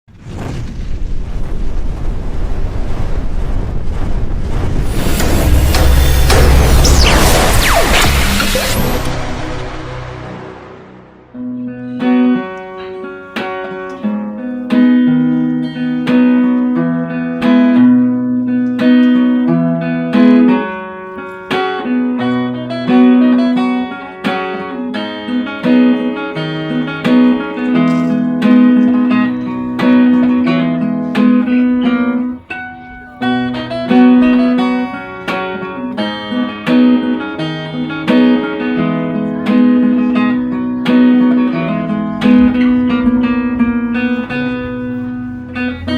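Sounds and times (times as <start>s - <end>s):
acoustic guitar: 3.6s - 45.9s.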